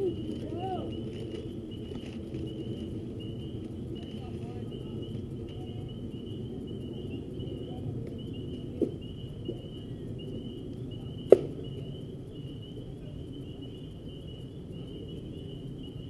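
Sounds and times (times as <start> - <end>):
insects chirping trill: 0.0 - 16.0
outdoor noise: 0.0 - 16.0.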